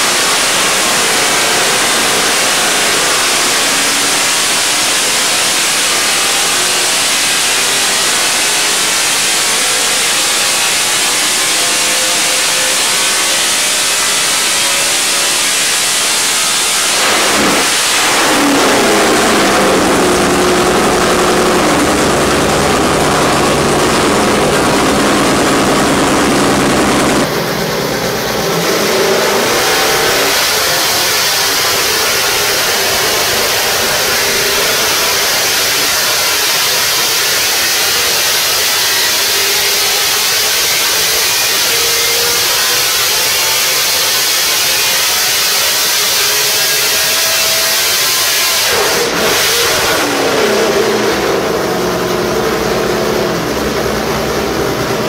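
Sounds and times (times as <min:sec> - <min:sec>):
race engine running loudly: 0:00.0 - 0:55.0.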